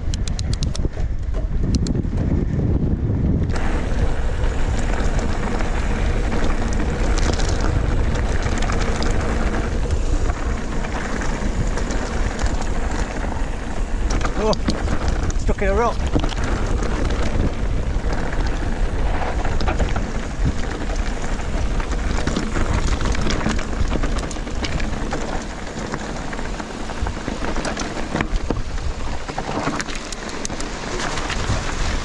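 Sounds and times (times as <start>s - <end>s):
stones and bike rattling: 0.0s - 32.0s
wind buffeting microphone: 0.0s - 32.0s
bike tyres rolling over gravel: 0.3s - 32.0s.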